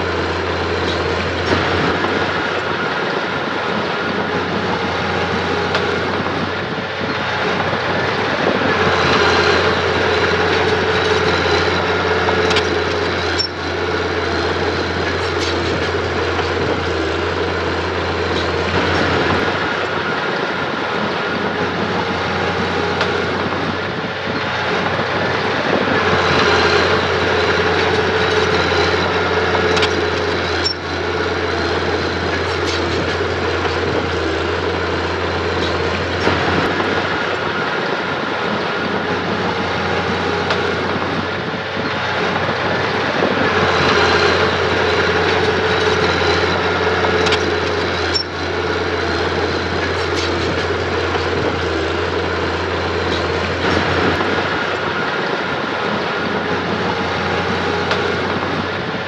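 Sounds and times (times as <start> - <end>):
diesel engine under load: 0.0 - 59.0
steel tracks clattering: 0.0 - 59.0.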